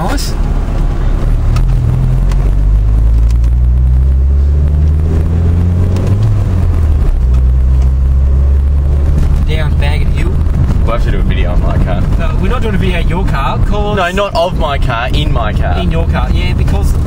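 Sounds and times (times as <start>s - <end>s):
car engine drone from inside cabin: 0.0s - 17.0s.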